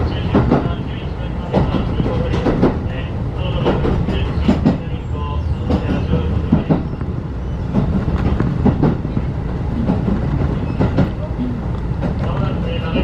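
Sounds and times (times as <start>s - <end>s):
train coach rumble: 0.0s - 13.0s.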